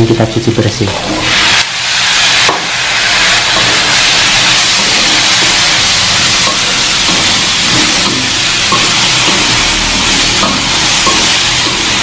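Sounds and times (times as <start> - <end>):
food sizzling in a wok: 0.5 - 12.0.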